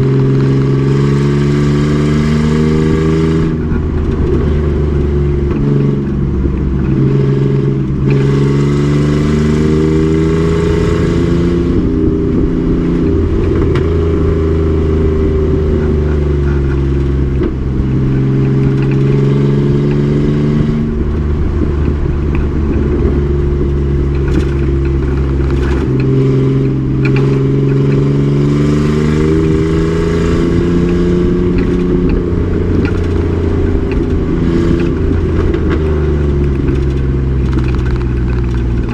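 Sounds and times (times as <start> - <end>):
race truck engine under load: 0.0 - 38.9.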